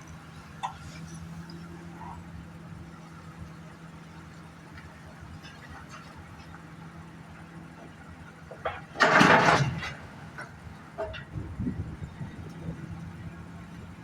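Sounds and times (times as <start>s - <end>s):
diesel machinery humming: 0.0s - 14.0s.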